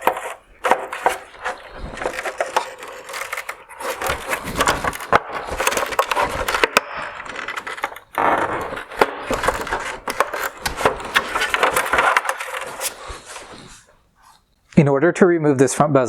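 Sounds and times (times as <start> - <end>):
screw threads rasping in plastic: 0.0 - 14.5.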